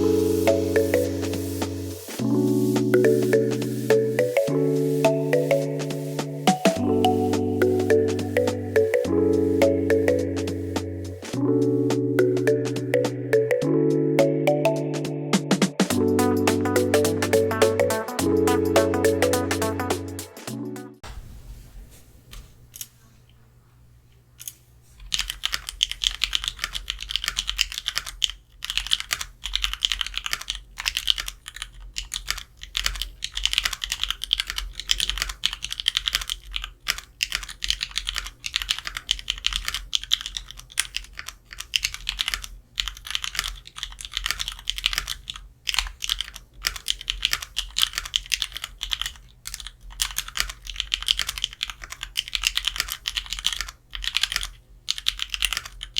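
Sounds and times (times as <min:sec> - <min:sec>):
mechanical keyboard typing: 0:00.0 - 0:13.7, 0:24.4 - 0:55.9.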